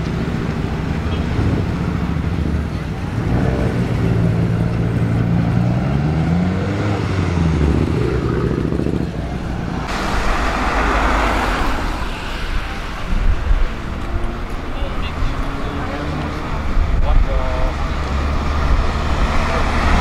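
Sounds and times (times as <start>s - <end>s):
rushing engine and exhaust: 0.0s - 20.0s.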